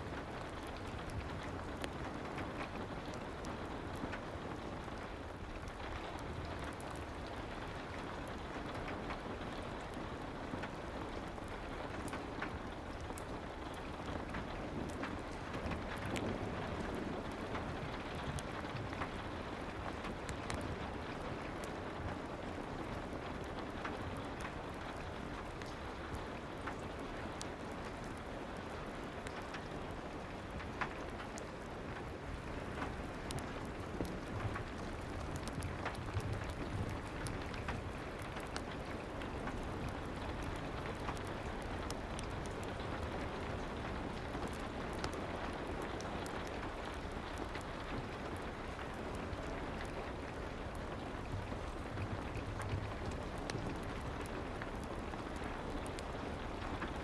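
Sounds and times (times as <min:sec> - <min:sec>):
fireplace crackling: 0:00.0 - 0:57.0
soft rain falling: 0:00.0 - 0:57.0.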